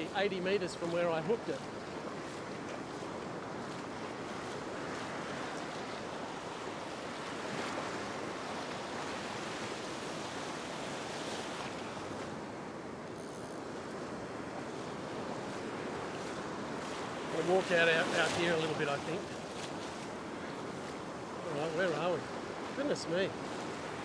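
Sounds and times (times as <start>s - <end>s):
ocean surf breaking: 0.0s - 13.0s, 13.8s - 24.0s.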